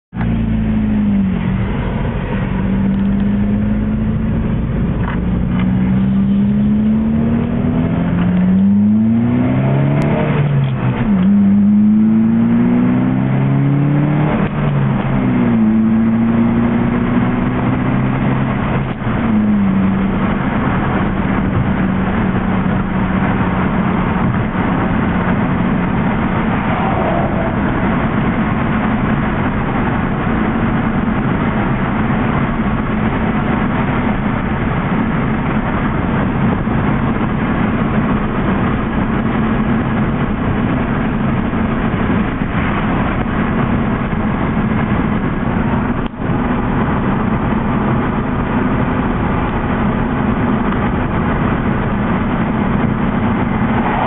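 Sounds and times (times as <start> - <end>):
car engine accelerating: 0.1 - 54.0.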